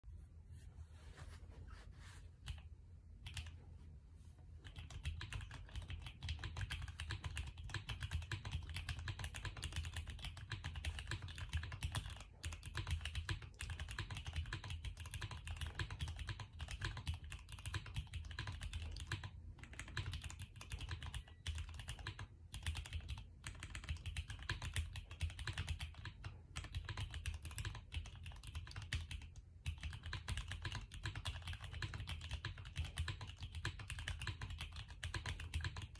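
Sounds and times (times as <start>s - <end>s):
mechanical keyboard typing: 3.2s - 3.6s, 4.6s - 35.9s.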